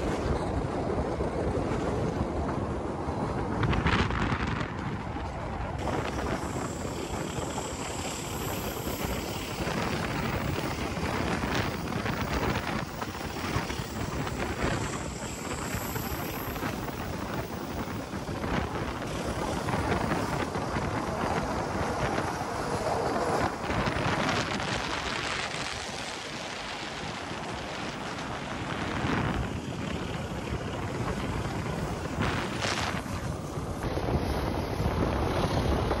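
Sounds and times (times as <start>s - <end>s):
train wheels rumbling on rails: 0.0s - 36.0s
wind buffeting microphone: 0.0s - 36.0s.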